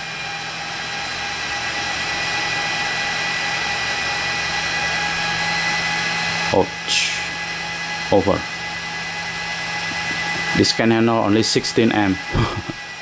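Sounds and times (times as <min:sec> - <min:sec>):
cooling fans rushing hiss: 0:00.0 - 0:13.0.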